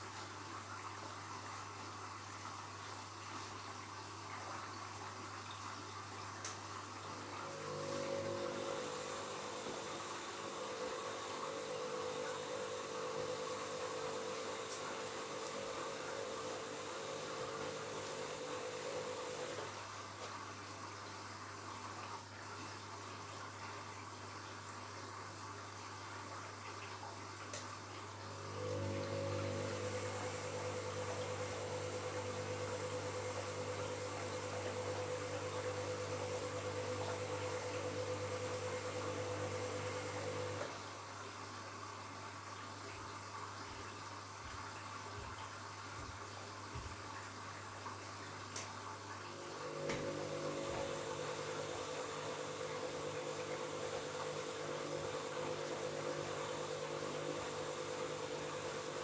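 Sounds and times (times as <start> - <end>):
water flowing into washing machine: 0.0 - 59.0.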